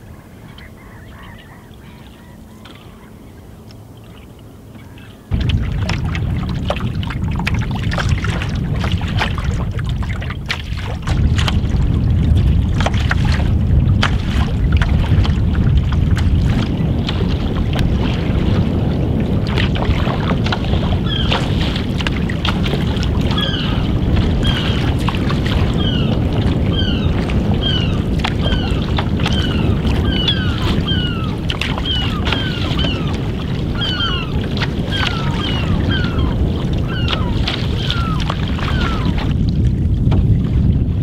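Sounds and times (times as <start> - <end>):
waves slapping canoe hull: 0.0 - 41.0
wind buffeting microphone: 0.0 - 41.0.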